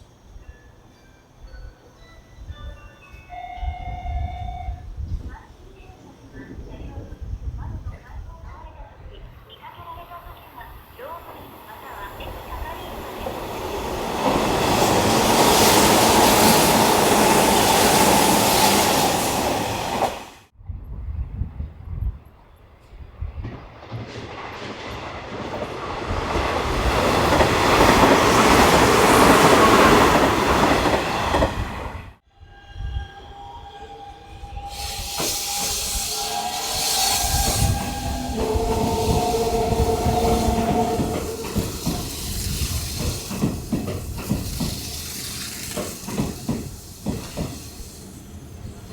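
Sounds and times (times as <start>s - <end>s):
electric train passing: 0.0s - 20.5s, 22.4s - 48.9s.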